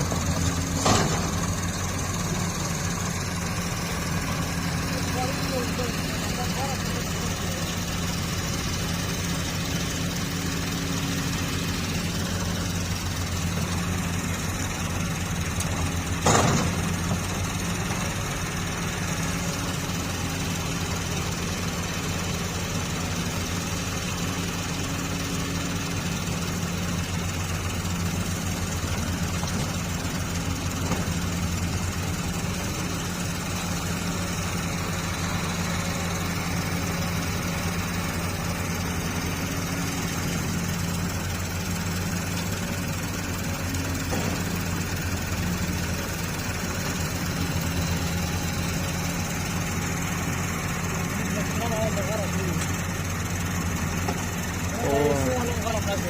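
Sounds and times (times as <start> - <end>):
excavator diesel engine idling: 0.0 - 56.0.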